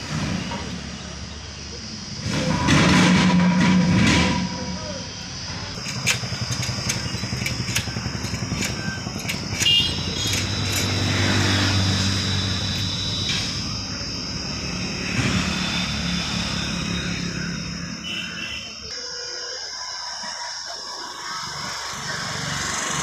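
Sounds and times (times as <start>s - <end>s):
heavy diesel engine running: 0.0s - 18.9s, 20.2s - 23.0s.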